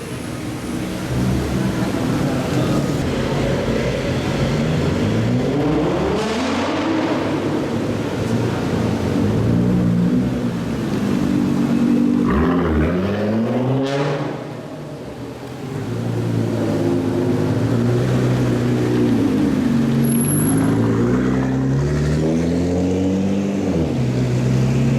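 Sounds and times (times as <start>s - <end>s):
supercar engines pulling away: 0.2s - 24.9s.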